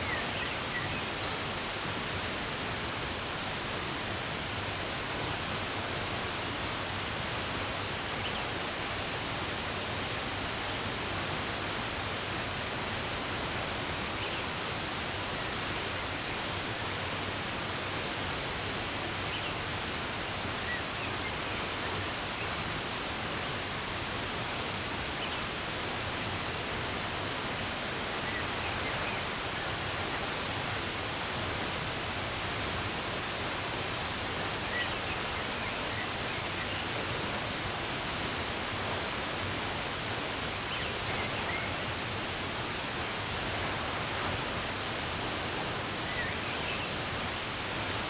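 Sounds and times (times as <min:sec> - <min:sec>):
running water rushing: 0:00.0 - 0:48.0.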